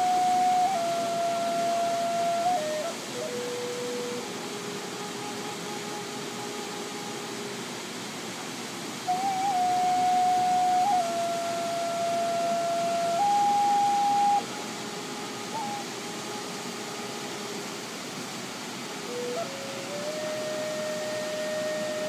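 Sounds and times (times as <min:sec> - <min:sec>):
flute playing long notes: 0:00.0 - 0:22.0
waterfall rushing: 0:00.0 - 0:22.0.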